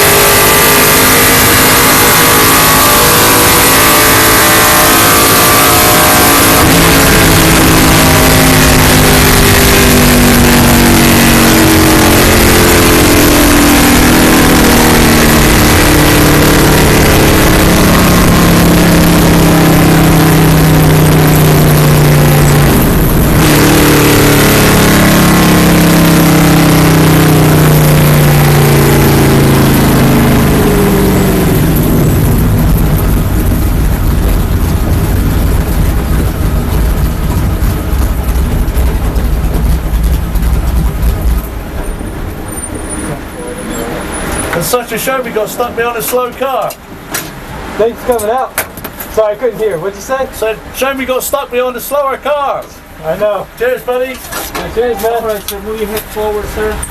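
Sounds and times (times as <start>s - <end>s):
race car engine at speed: 0.0s - 56.9s.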